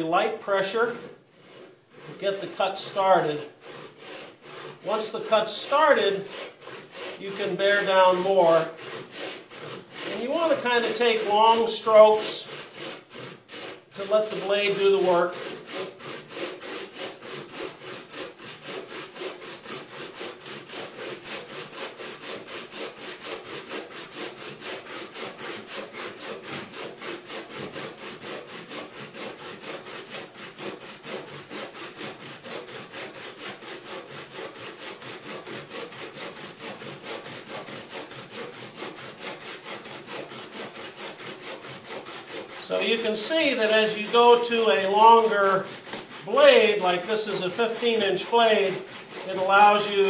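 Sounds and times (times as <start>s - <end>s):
saw rasping through a log: 0.0s - 50.0s.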